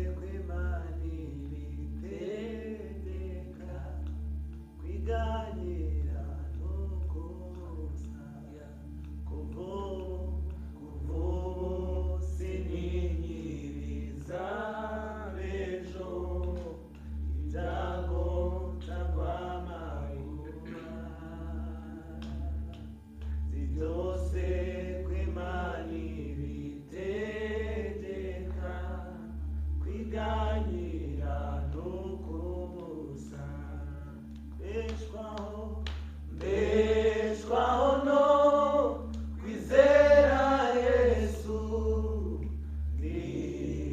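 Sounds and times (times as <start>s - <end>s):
group singing worship songs: 0.0s - 43.9s
steady low hum: 0.0s - 43.9s.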